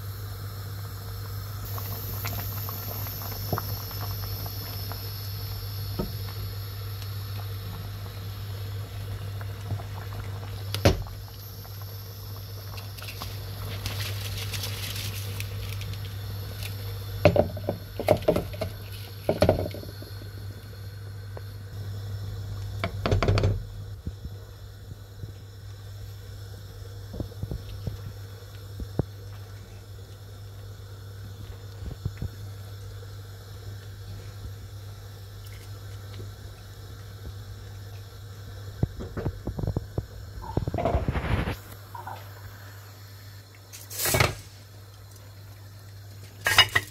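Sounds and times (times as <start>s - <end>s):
liquid boiling in pan: 0.0s - 46.9s
steady low hum: 0.0s - 46.9s.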